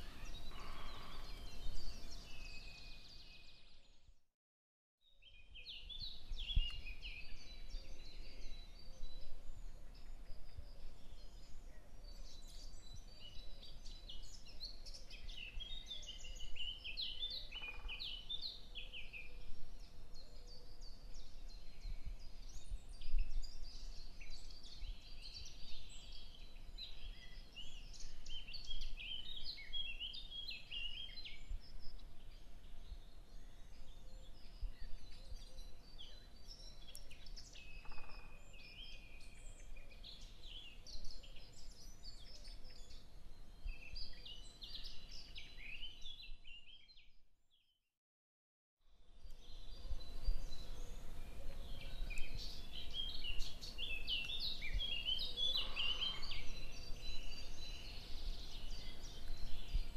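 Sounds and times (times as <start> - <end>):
small birds chirping and twittering: 0.0 - 4.2, 5.0 - 47.7, 48.9 - 59.9.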